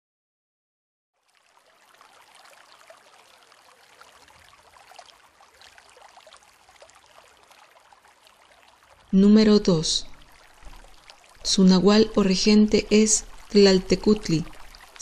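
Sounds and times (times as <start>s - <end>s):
water droplets ticking: 1.3s - 15.0s.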